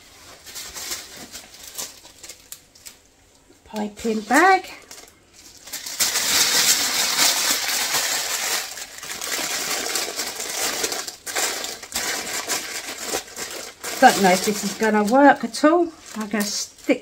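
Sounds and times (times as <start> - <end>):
plastic bag crinkling: 0.2 - 17.0.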